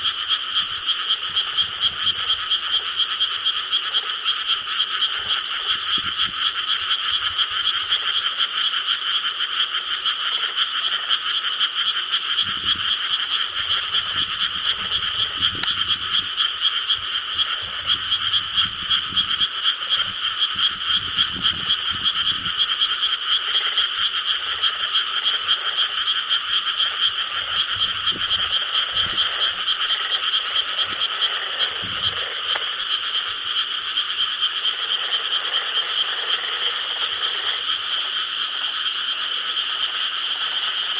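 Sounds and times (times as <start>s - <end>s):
chorus of frogs croaking: 0.0s - 40.9s.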